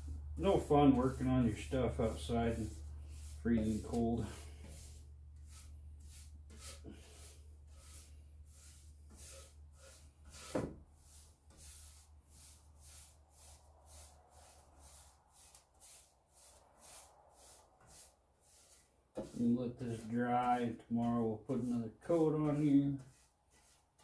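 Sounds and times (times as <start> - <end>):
paintbrush swishing on wood: 0.0 - 24.0.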